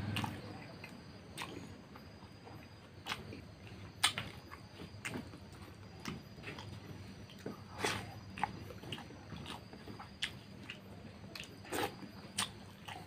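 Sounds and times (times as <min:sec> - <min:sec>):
chewing and lip smacks: 0:00.1 - 0:13.0.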